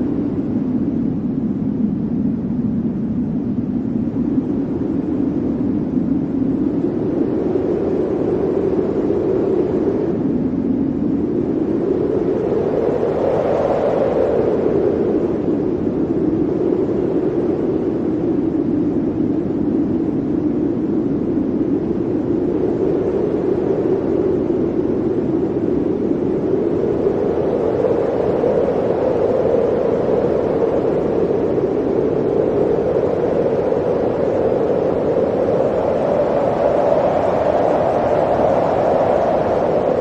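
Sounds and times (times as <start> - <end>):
blizzard wind rushing: 0.0 - 40.0.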